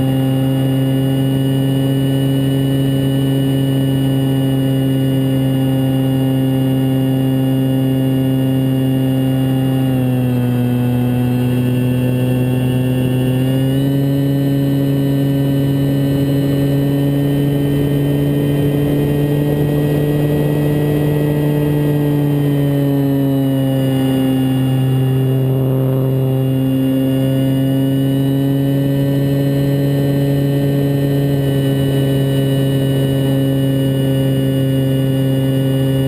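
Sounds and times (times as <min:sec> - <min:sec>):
model plane motor droning: 0:00.0 - 0:36.0.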